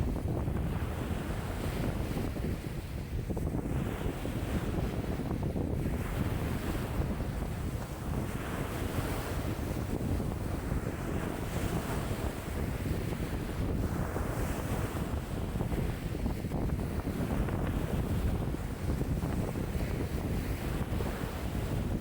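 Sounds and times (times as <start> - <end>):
lake waves washing in: 0.0 - 22.0
wind buffeting microphone: 0.0 - 22.0.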